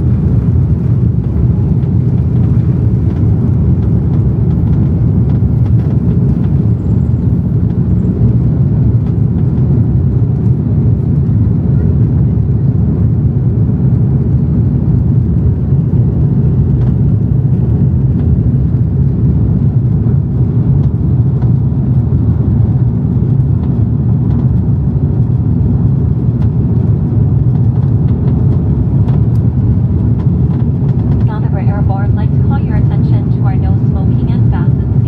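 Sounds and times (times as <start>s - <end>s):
jet cabin engine roar: 0.0s - 35.0s.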